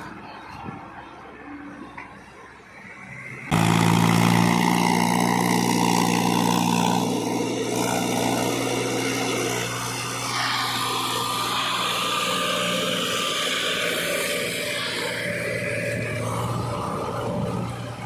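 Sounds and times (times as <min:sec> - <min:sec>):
heavy diesel engine running: 0:03.5 - 0:18.0.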